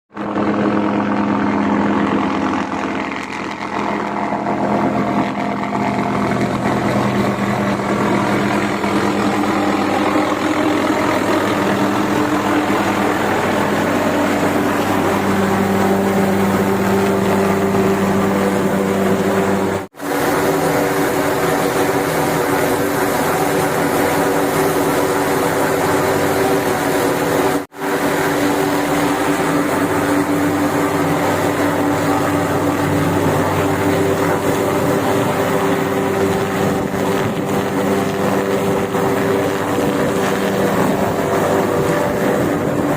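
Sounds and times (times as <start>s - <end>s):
helicopter turbine and rotor: 0.1s - 42.9s.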